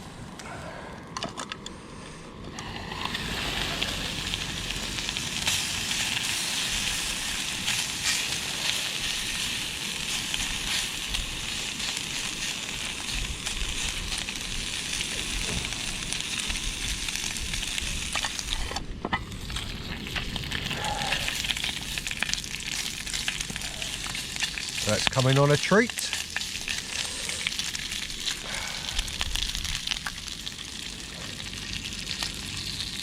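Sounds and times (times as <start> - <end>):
bacon sizzling in a pan: 2.8 - 33.0.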